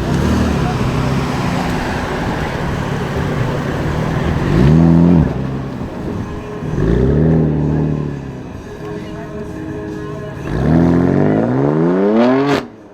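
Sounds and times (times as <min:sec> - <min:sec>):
car engine revving: 0:00.0 - 0:12.9
other cars running: 0:00.0 - 0:12.9.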